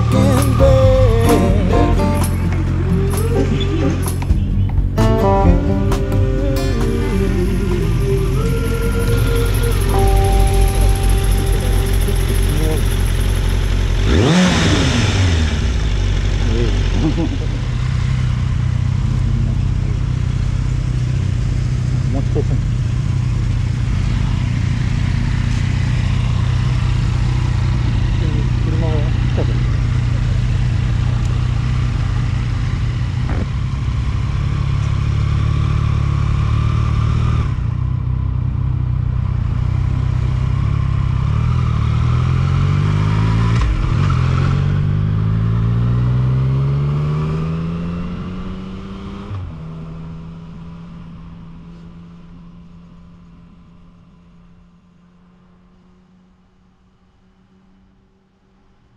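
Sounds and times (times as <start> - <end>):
motorcycle engine accelerating: 0.0 - 58.1.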